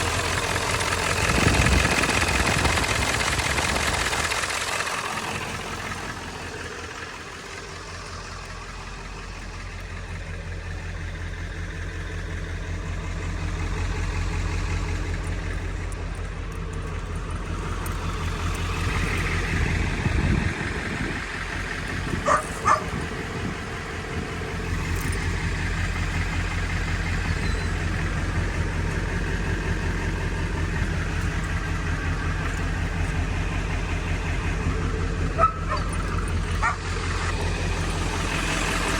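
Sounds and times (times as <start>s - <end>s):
vehicle engine humming: 0.0s - 38.9s.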